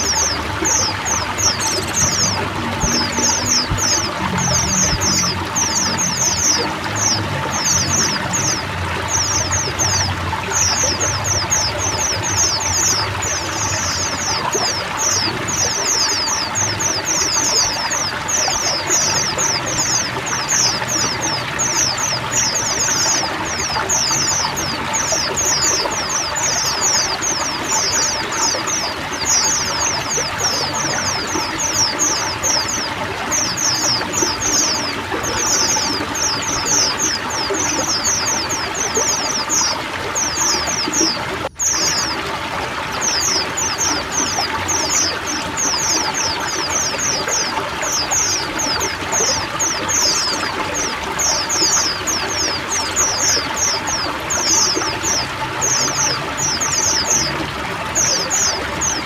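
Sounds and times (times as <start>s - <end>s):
birds chirping: 0.0s - 59.0s
running water splashing: 0.0s - 59.0s.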